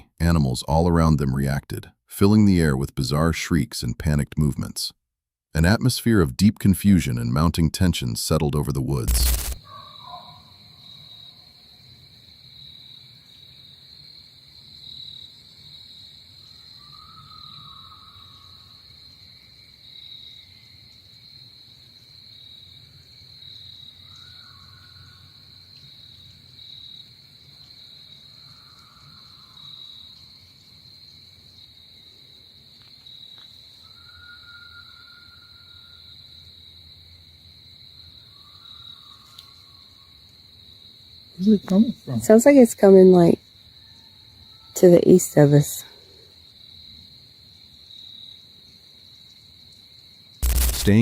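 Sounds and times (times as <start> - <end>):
cricket trill: 5.6 - 51.0.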